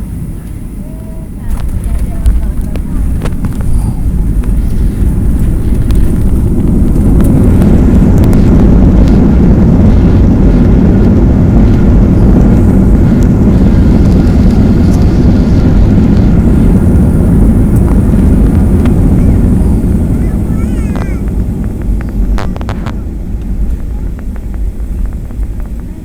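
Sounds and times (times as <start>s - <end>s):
airliner engines roaring: 0.0s - 26.0s.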